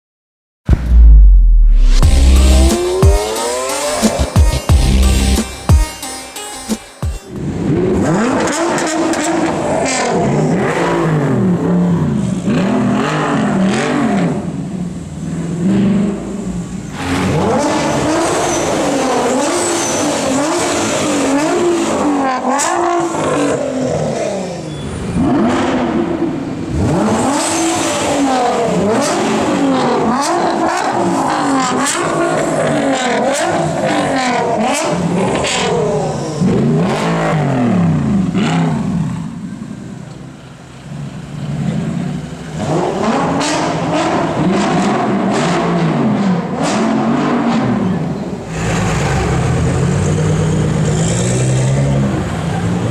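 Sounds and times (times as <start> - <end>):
car engine accelerating through gears: 0.7 - 5.5, 7.3 - 52.9.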